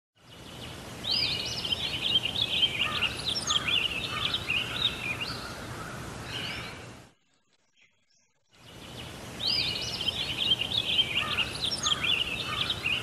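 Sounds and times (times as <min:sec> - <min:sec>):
bird chirping and twittering: 0:00.2 - 0:06.9, 0:07.6 - 0:13.0.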